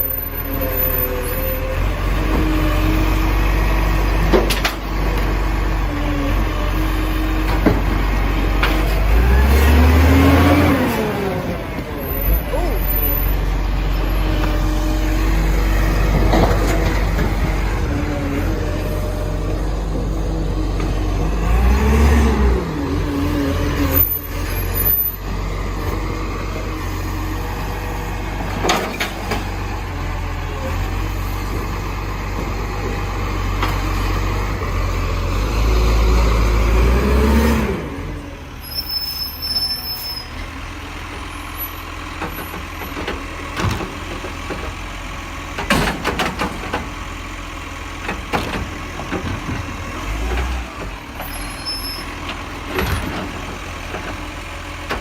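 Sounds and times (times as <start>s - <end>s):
garbage truck diesel engine revving: 0.0s - 55.0s.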